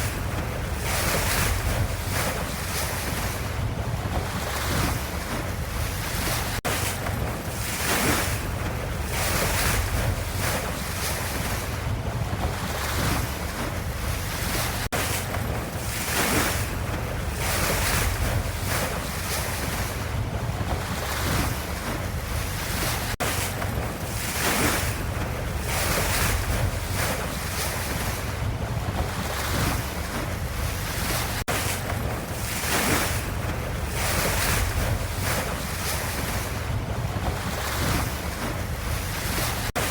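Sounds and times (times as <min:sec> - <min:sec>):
ocean waves and surf: 0:00.0 - 0:39.9.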